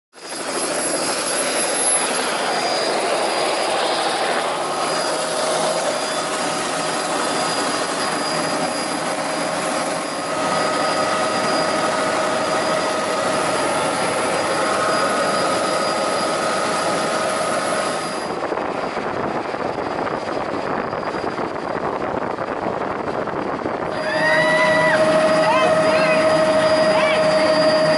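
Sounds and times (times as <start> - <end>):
helicopter turbine whine: 0.1 - 27.9
rotor noise: 0.2 - 27.9.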